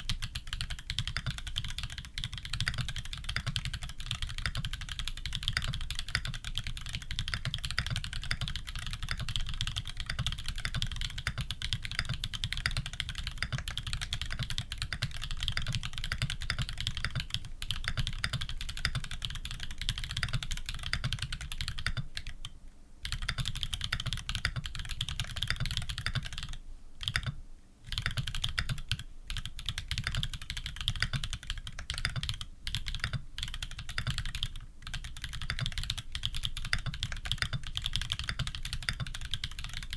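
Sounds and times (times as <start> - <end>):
fast mechanical keyboard typing: 0.0 - 22.4, 23.0 - 39.9.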